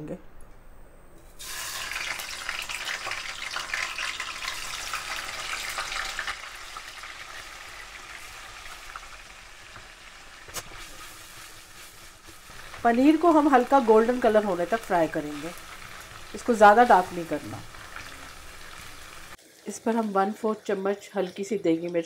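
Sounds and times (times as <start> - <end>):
food sizzling in hot oil: 1.3 - 22.0.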